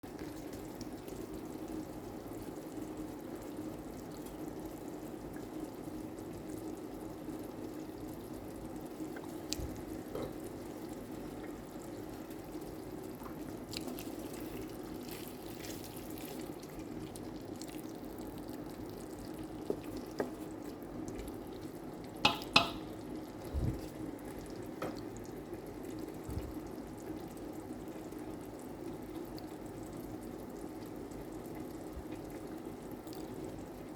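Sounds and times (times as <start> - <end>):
pot bubbling and sizzling: 0.0 - 33.9.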